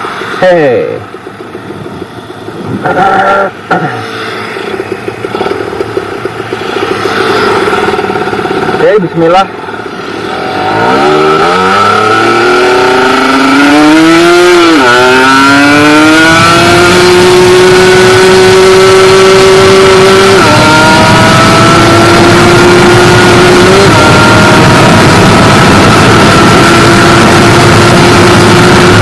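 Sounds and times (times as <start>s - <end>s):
wind rushing over microphone: 0.0s - 3.1s, 4.4s - 29.0s
motorcycle engine revving: 0.0s - 29.0s.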